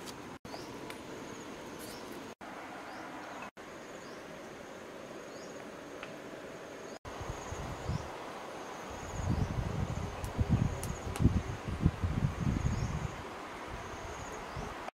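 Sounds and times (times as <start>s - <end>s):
even background hiss: 0.0s - 14.9s
insects buzzing: 0.5s - 14.8s.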